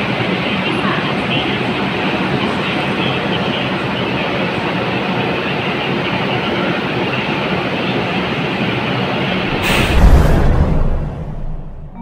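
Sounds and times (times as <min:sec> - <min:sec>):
train wheels on track: 0:00.0 - 0:12.0.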